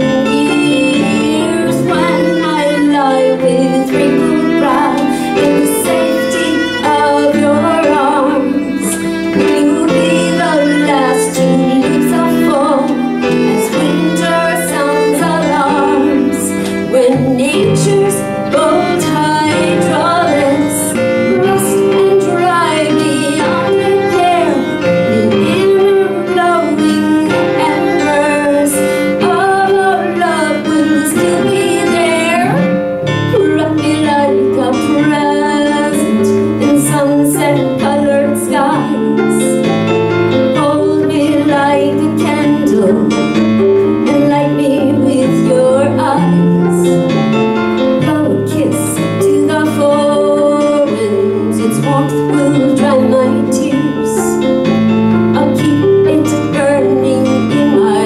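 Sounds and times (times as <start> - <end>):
woman singing: 0.0 - 54.6, 55.3 - 58.0
keyboard: 0.0 - 58.0
violin: 0.0 - 58.0.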